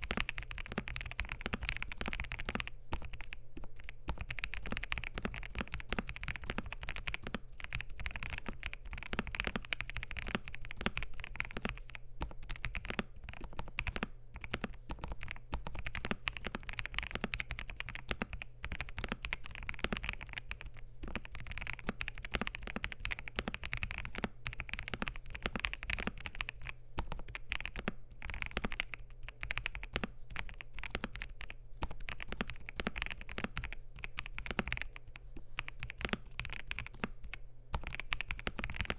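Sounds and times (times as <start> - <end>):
faint low hum: 0.0 - 38.9
mechanical keyboard typing: 0.0 - 38.9.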